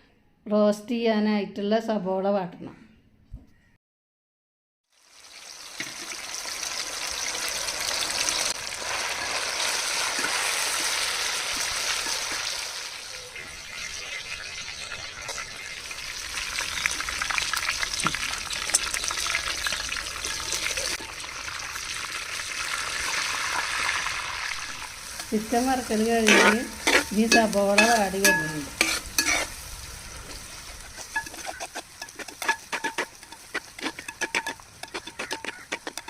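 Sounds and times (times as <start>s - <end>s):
onions sizzling in oil: 4.9s - 36.0s.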